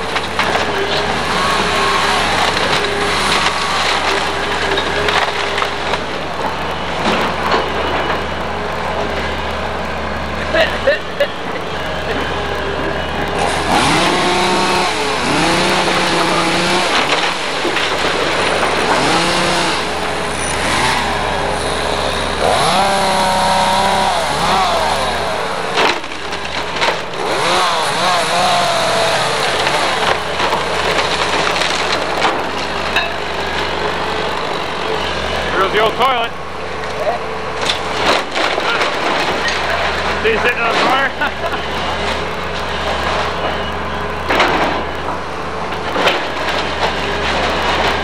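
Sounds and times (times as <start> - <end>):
excavator diesel engine: 0.0 - 48.0
timber cracking: 0.0 - 48.0.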